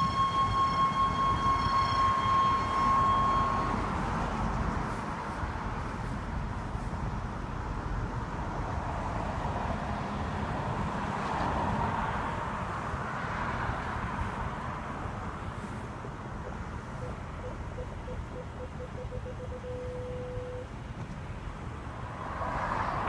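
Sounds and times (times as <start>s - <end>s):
car low rumble: 0.0s - 23.0s.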